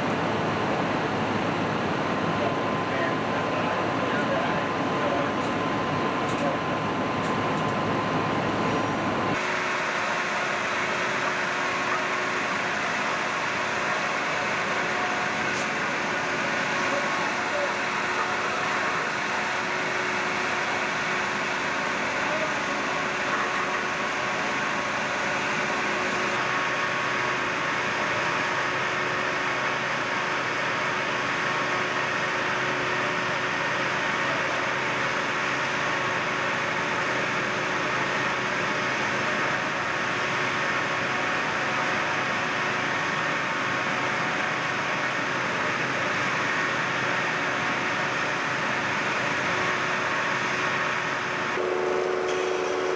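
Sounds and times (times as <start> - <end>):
fire truck engine running: 0.0 - 52.9.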